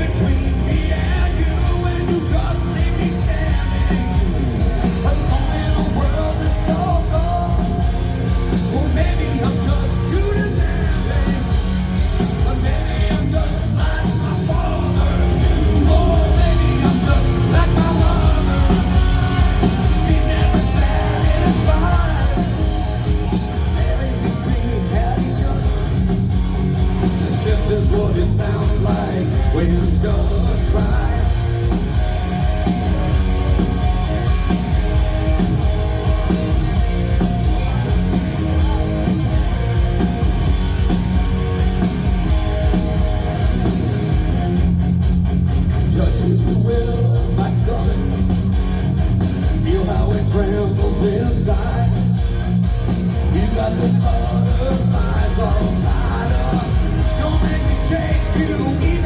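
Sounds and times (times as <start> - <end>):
bass guitar: 0.0 - 59.0
drums: 0.0 - 59.0
electric guitar: 0.0 - 59.0.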